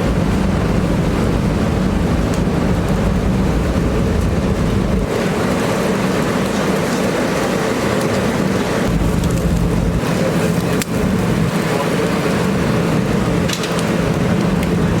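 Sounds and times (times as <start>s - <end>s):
cooking flame roaring: 0.0s - 15.0s
grill sizzling: 0.0s - 15.0s.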